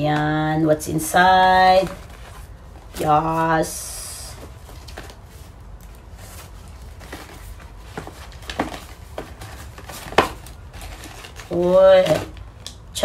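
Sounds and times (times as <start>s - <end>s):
paper bag and ribbon rustling: 0.0s - 12.6s
soft paper crinkles: 1.4s - 12.6s.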